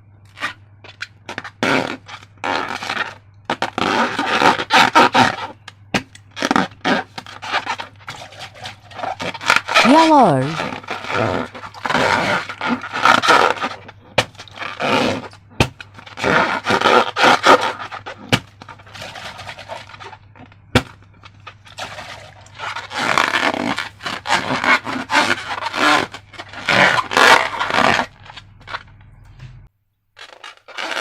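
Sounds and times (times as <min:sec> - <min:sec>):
squishing slime and balloons: 0:00.3 - 0:31.0.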